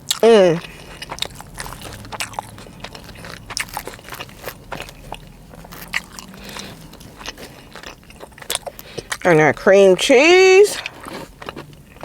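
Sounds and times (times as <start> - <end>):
person chewing food: 0.0 - 9.7, 10.7 - 12.0.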